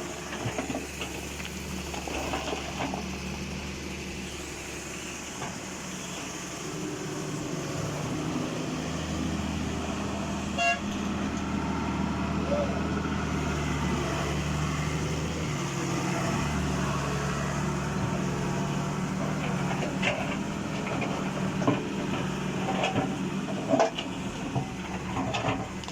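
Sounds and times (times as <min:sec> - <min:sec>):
excavator diesel engine running: 0:00.0 - 0:25.9.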